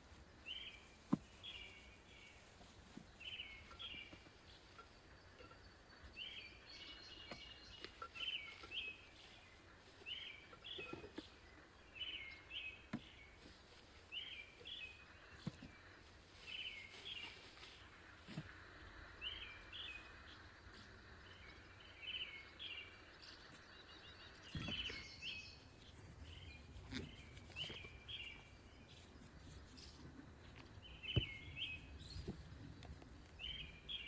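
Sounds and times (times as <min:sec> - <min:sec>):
faint outdoor background: 0:00.0 - 0:34.0.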